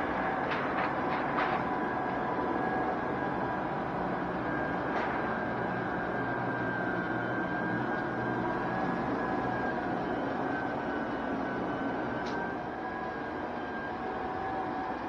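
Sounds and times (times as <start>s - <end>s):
floor burnisher running: 0.0s - 15.0s.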